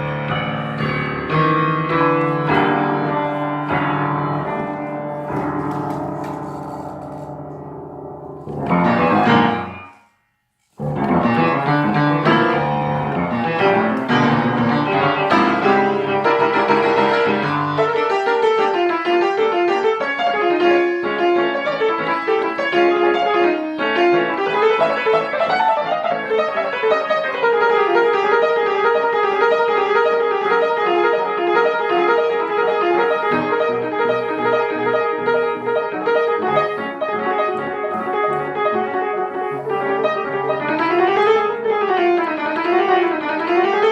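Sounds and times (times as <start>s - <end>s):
piano music: 0.0s - 43.9s.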